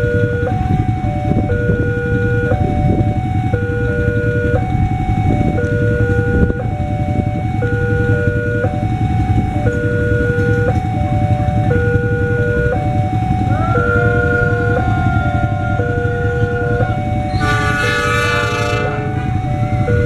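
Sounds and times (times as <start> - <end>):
motorcycle engines idling: 0.0 - 20.0
two-tone warning alarm: 0.0 - 20.0.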